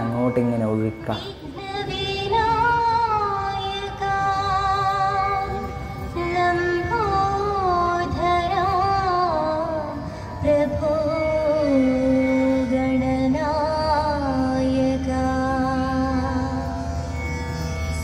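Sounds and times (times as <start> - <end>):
woman singing: 1.2 - 16.7.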